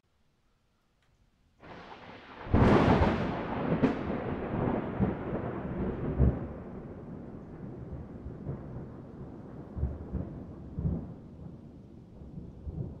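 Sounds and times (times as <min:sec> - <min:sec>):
thunder cracks: 0:01.6 - 0:13.0
thunder rumbling: 0:01.6 - 0:13.0.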